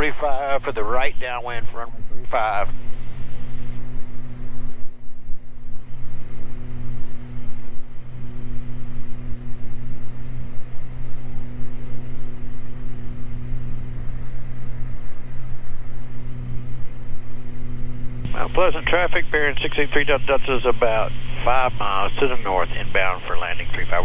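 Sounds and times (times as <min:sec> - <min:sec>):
airplane engines droning: 0:00.0 - 0:24.0.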